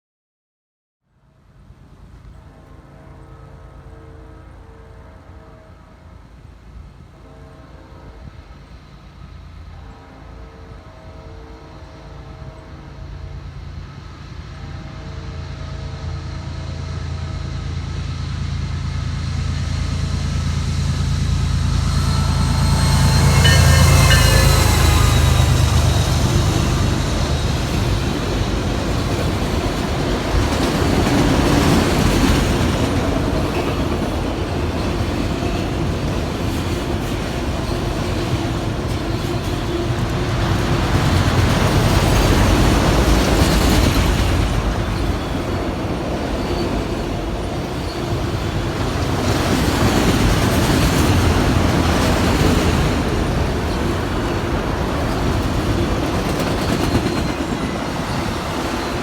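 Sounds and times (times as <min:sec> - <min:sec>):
train wheels rumbling on track: 0:01.8 - 0:59.0.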